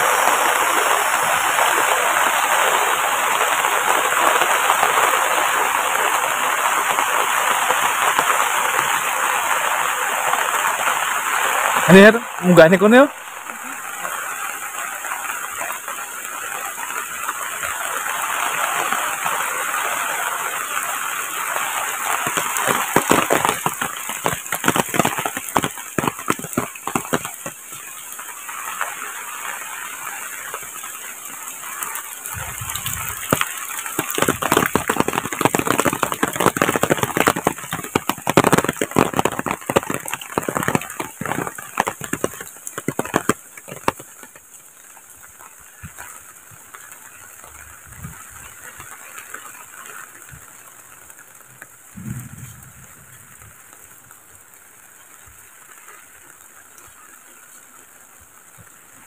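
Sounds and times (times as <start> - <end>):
rain on leaves and concrete: 0.0 - 59.0
sharp raindrop hits: 0.0 - 59.0.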